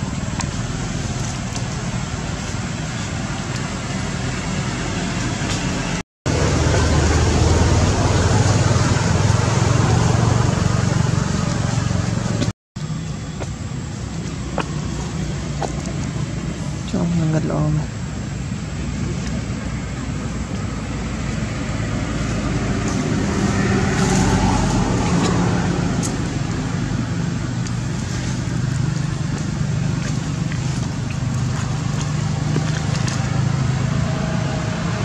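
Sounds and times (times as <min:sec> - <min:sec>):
constant noisy wash: 0:00.0 - 0:35.0
low motor hum: 0:00.0 - 0:35.0.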